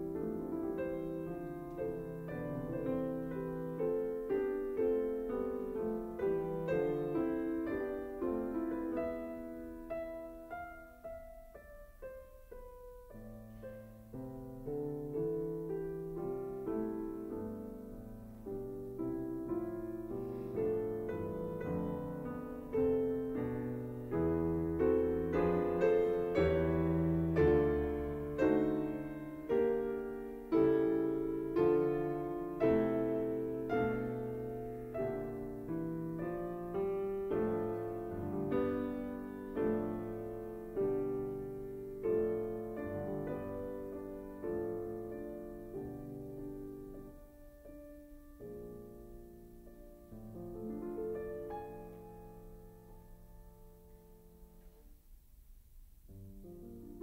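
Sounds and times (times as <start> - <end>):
slow piano chords and notes: 0.0 - 57.0.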